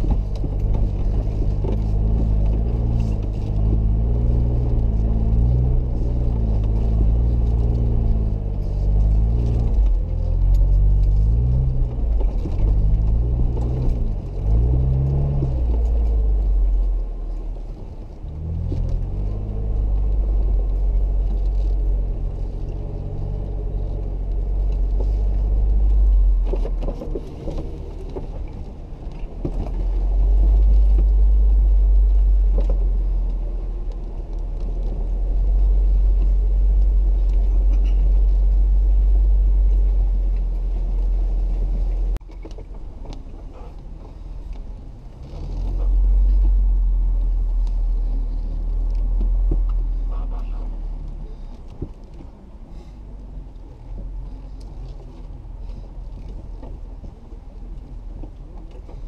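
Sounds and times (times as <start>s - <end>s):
off-road vehicle engine rumble: 0.0s - 59.0s.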